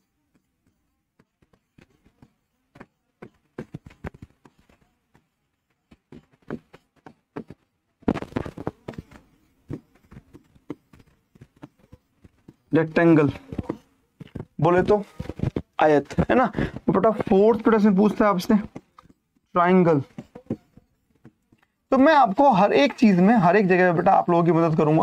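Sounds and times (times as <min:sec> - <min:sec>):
stylus tapping on screen: 0:00.3 - 0:22.4.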